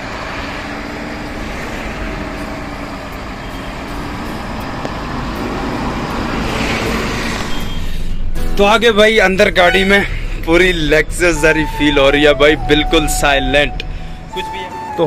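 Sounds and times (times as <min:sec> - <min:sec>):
vehicle engine running: 0:00.0 - 0:14.6
road noise: 0:00.0 - 0:15.0.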